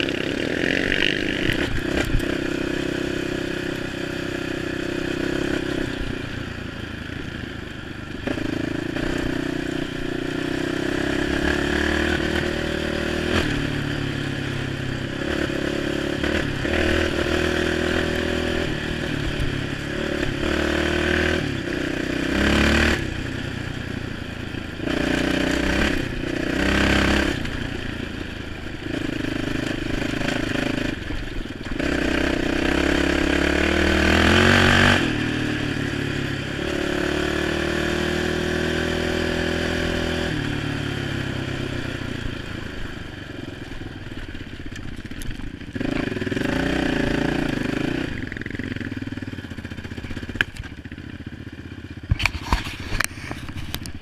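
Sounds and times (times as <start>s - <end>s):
all-terrain vehicle engine revving: 0.0s - 54.0s.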